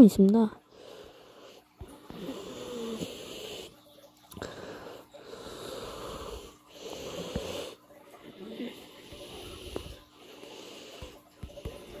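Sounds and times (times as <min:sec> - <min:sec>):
person breathing: 0:00.7 - 0:12.0.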